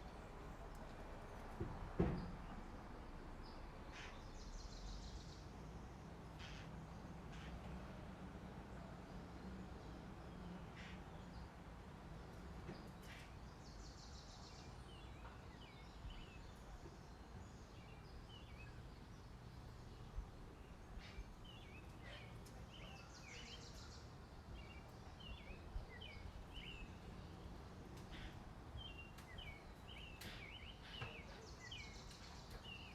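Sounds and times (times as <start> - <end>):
faint background noise: 0.0 - 32.9
small birds chirping: 2.2 - 7.6, 8.8 - 32.9.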